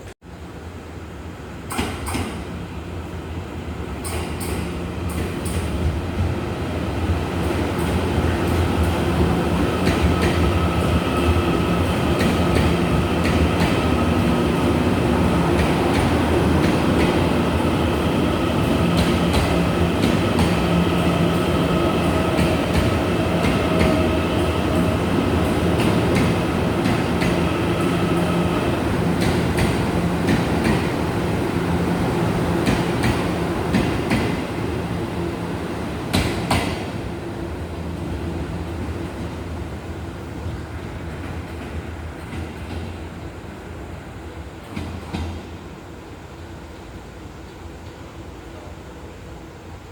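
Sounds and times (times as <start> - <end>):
train running on rails: 0.0 - 49.9.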